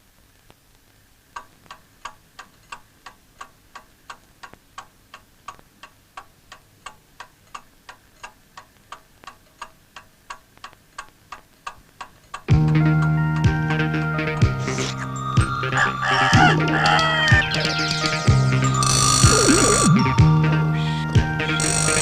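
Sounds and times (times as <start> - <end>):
clock ticking: 1.4 - 22.0.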